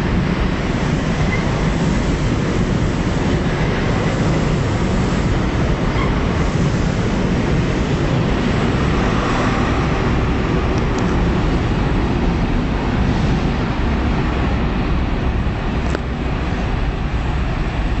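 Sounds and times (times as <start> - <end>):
diesel train passing: 0.0 - 18.0.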